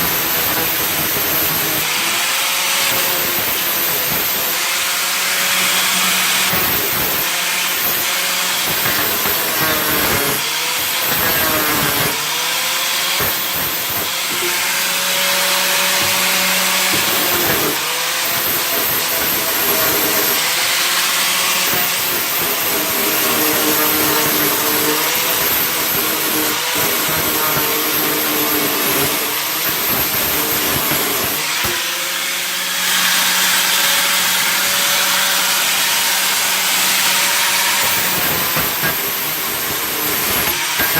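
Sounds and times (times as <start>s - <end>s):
handheld power tool running: 0.0s - 40.9s.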